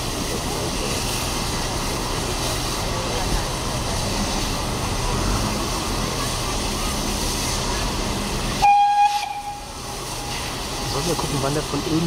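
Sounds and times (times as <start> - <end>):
steam hissing from locomotives: 0.0 - 12.0.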